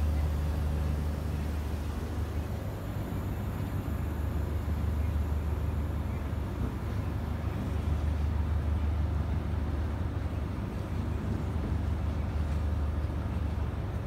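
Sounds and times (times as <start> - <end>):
train diesel engine droning: 0.0 - 14.0.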